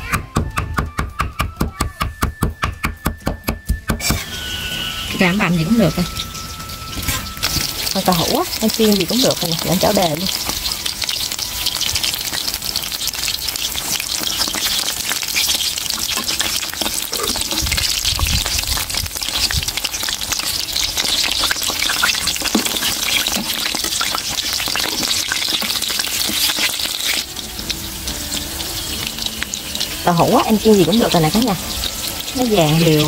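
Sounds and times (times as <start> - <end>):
tofu sizzling in hot oil: 4.0 - 33.0.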